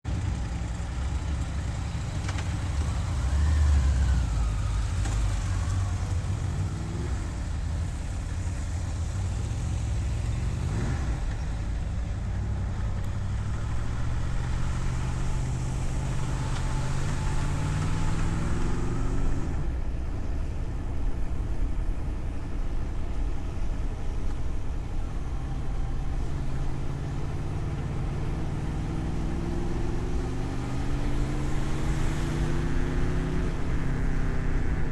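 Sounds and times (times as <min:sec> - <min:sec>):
car engine and road rumble: 0:00.0 - 0:34.9.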